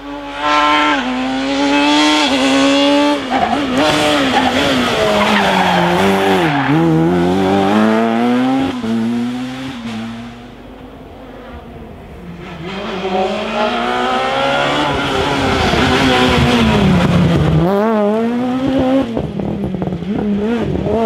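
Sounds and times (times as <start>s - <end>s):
rally car engine revving: 0.0s - 21.0s
tyres skidding: 2.4s - 19.3s.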